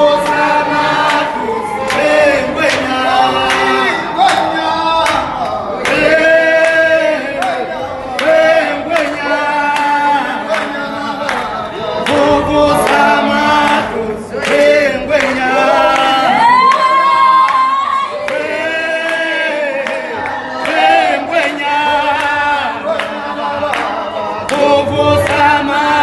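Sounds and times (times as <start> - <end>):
group singing unaccompanied: 0.0 - 26.0
hand clapping: 0.0 - 26.0.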